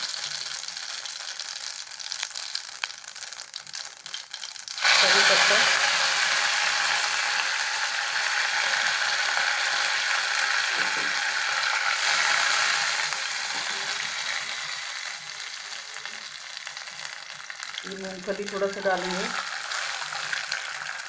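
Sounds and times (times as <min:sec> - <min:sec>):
seeds crackling in hot oil: 0:00.0 - 0:21.0.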